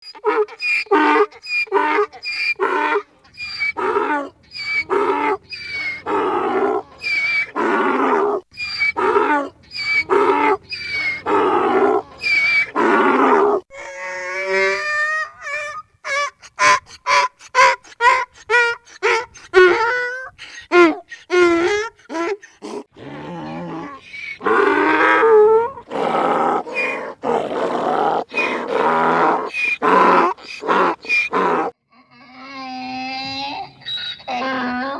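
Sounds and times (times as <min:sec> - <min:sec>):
donkey braying: 0:00.0 - 0:34.9.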